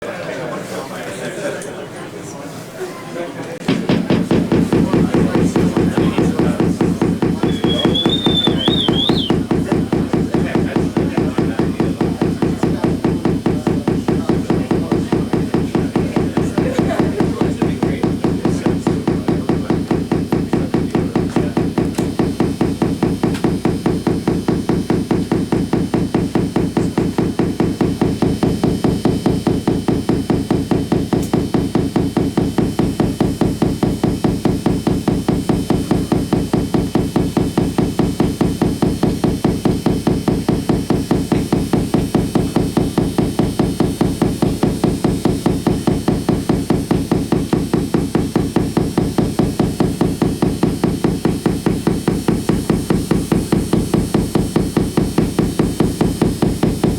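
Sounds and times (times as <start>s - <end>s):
rapid pulsing electrical buzz: 3.6s - 56.9s.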